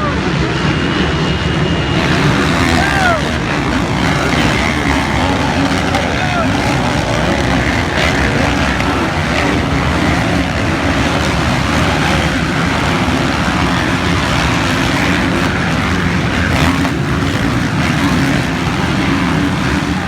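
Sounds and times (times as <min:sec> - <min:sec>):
motorbike engines running: 0:00.0 - 0:20.0.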